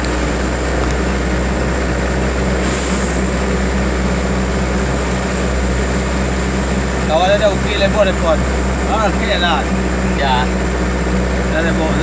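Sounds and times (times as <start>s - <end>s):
steady high whine: 0.0s - 12.0s
vehicle engine and road noise: 0.0s - 12.0s.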